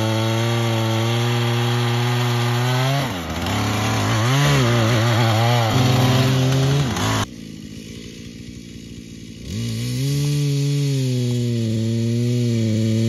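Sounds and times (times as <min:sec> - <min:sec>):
chainsaw cutting ice: 0:00.0 - 0:13.0.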